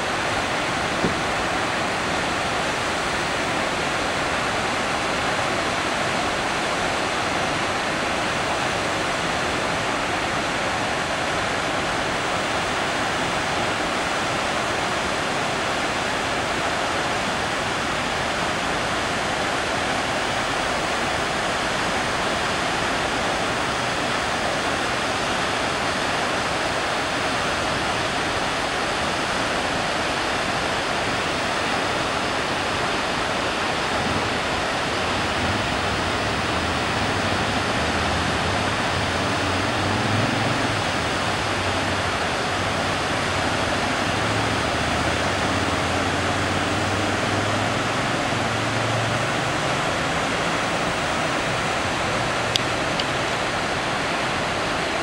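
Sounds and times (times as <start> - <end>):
waterfall rushing over boulders: 0.0 - 55.0.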